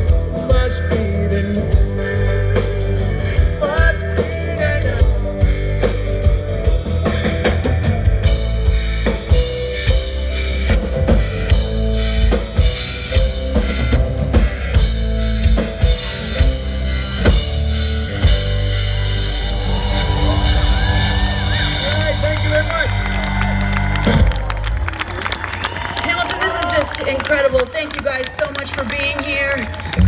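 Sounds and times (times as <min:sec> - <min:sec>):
busy drum kit: 0:00.0 - 0:30.0
live rock band playing: 0:00.0 - 0:30.0.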